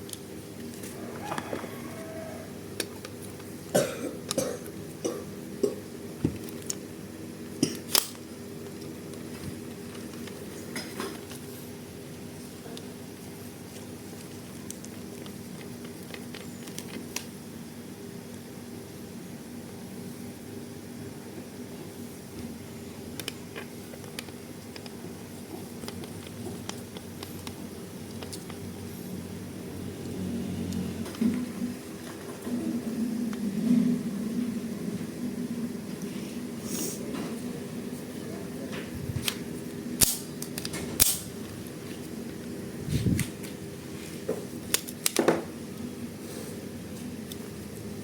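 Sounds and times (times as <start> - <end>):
steady low hum: 0.0 - 44.8.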